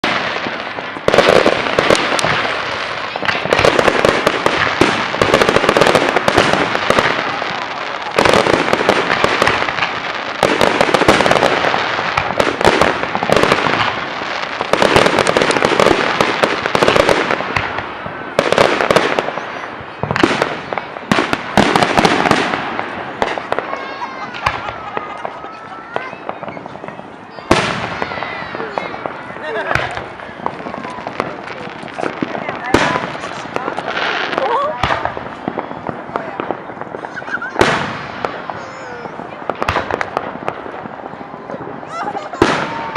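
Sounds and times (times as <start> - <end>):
fireworks crackling and popping: 0.0 - 42.9.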